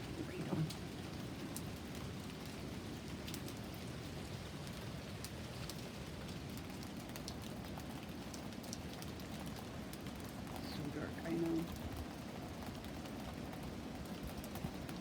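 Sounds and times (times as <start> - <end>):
raindrops ticking: 0.0 - 3.9, 4.6 - 15.0
steady rain: 0.0 - 15.0.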